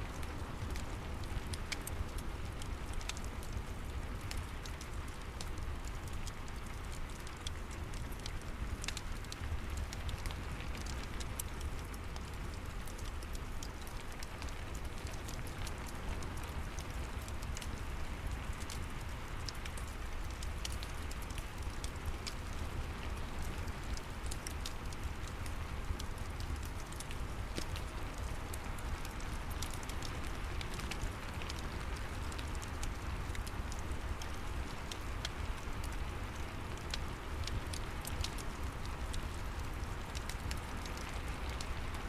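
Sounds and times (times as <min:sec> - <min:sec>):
crackling fireplace: 0:00.0 - 0:42.0
steady rain: 0:00.0 - 0:42.0.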